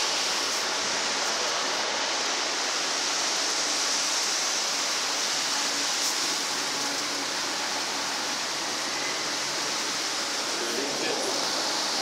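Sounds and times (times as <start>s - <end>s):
water circulation: 0.0s - 12.0s.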